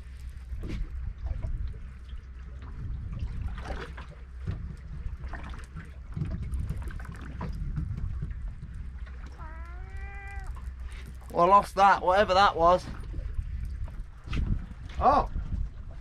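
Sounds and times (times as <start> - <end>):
water slapping against boat hull: 0.0 - 16.0
wind buffeting microphone: 0.0 - 16.0.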